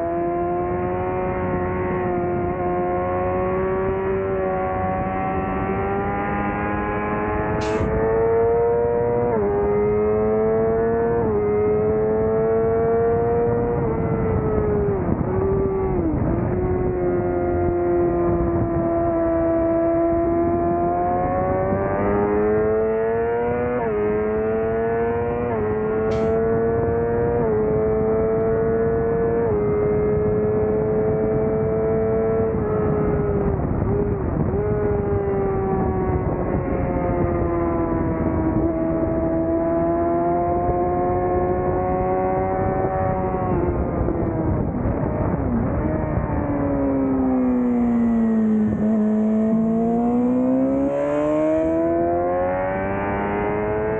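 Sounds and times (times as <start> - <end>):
motorcycle engine revving: 0.0 - 53.9
wind noise: 0.0 - 53.9.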